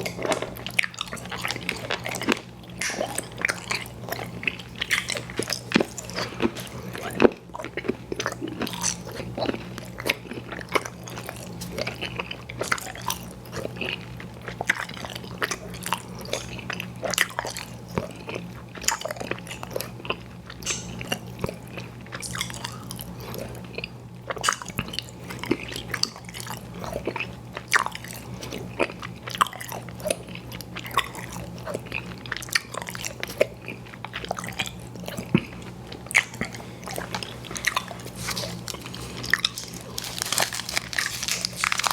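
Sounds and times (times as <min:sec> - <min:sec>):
chewing chewy candy: 0:00.0 - 0:41.9
low steady hum: 0:00.0 - 0:41.9.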